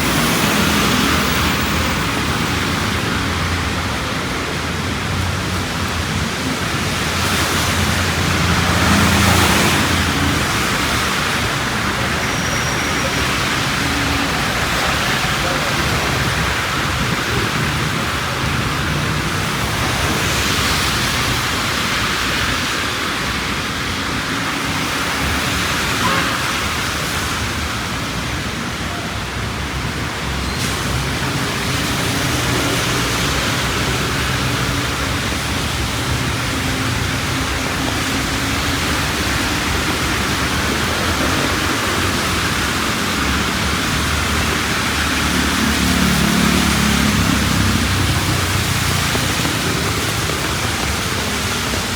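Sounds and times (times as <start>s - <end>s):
heavy rain falling: 0.0s - 51.9s
street traffic hum: 0.0s - 51.9s.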